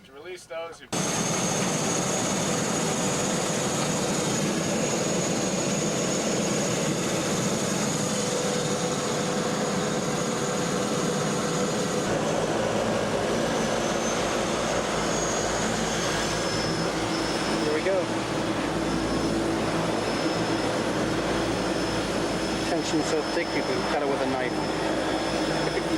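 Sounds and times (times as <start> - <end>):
propeller engine running: 0.9 - 25.9.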